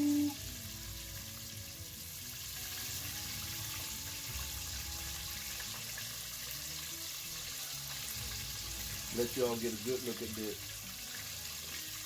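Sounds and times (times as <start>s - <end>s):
oil sizzling hiss: 0.0s - 12.0s.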